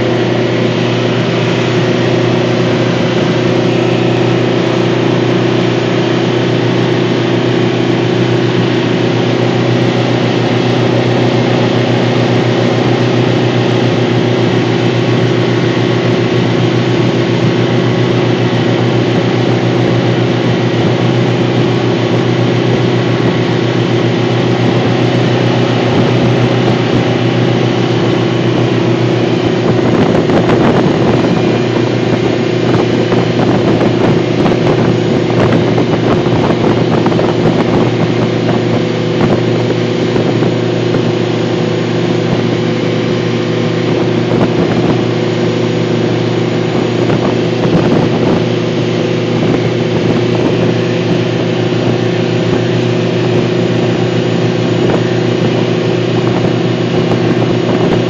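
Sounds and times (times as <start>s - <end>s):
boat engine running: 0.0s - 58.0s
wind buffeting microphone: 0.0s - 58.0s.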